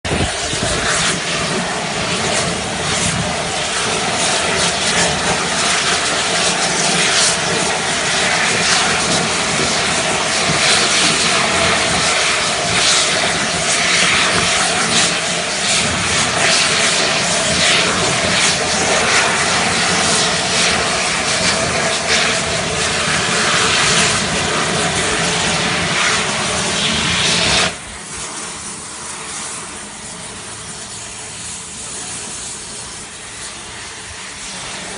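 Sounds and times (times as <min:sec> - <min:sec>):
gas torch flame roaring: 0:00.1 - 0:34.9.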